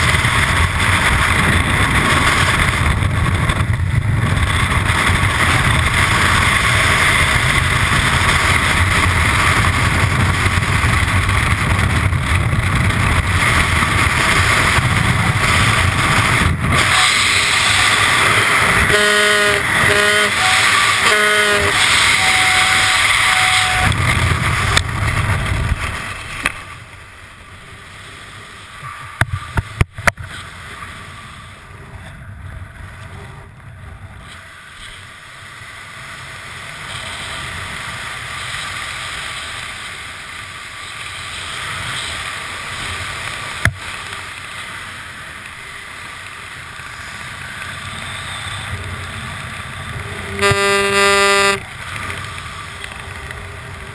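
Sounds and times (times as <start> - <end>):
rushing freefall wind: 0.0 - 53.9
steady wind under canopy: 0.0 - 53.9.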